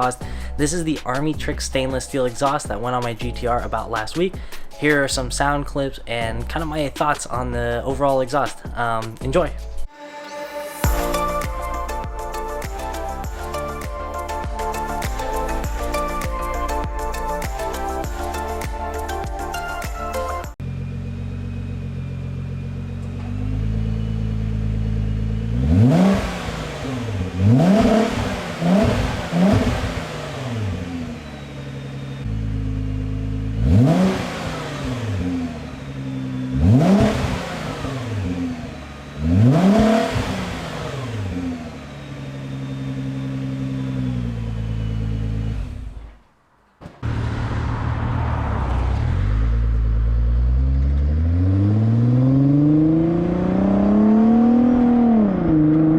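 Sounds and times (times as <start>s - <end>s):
car engine idling and revving: 10.9s - 55.9s.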